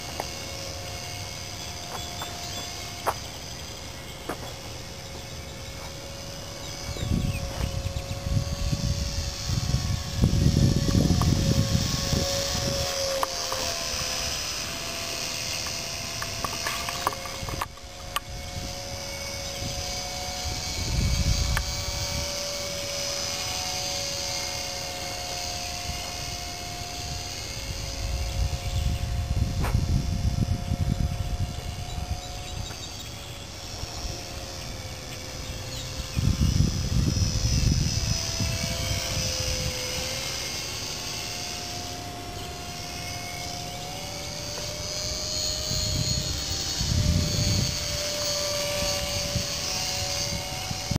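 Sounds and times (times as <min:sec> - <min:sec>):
model plane motor whine: 0:00.0 - 0:50.9.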